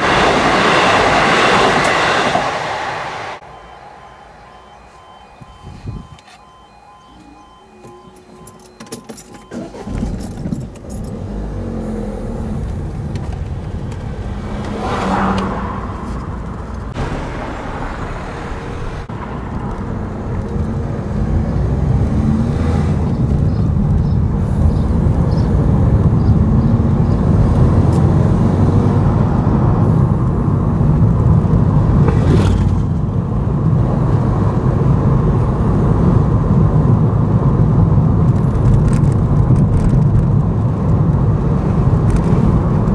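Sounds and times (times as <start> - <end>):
car engine and tyre noise: 0.0 - 42.9.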